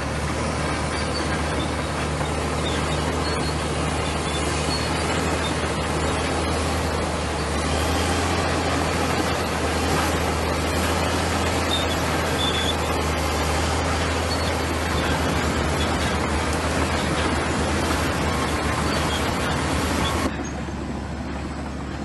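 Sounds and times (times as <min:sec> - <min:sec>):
bulldozer diesel engine drone: 0:00.0 - 0:22.0.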